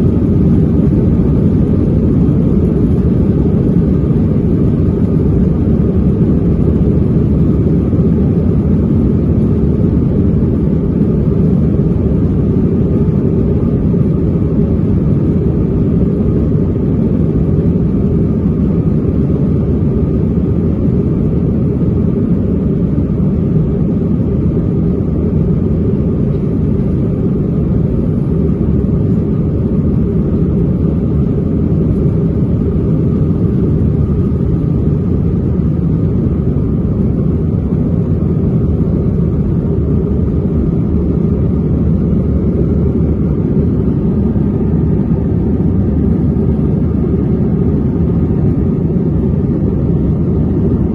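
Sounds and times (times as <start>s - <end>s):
jet engines rumbling in cabin: 0.0s - 50.9s.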